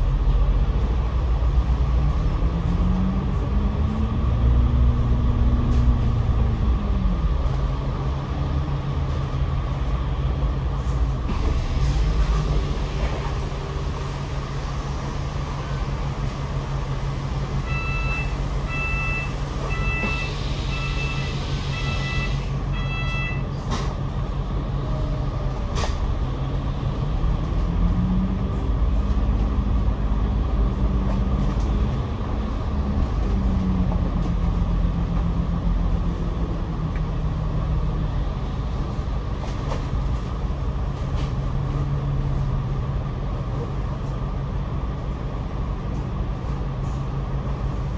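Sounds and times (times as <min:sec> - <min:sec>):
bus engine and cabin rumble: 0:00.0 - 0:47.9.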